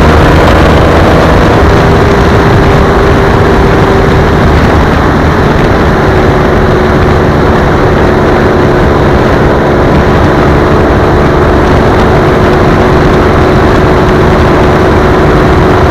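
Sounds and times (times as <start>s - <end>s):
motorcycle engine running: 0.0s - 15.9s
wind noise: 0.0s - 15.9s.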